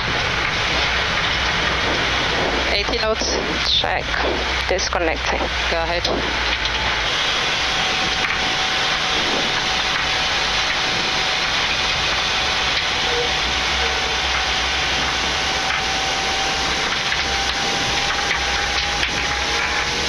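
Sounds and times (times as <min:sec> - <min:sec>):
airflow and wheels rumbling: 0:00.0 - 0:20.0
jet engines idling: 0:00.0 - 0:20.0.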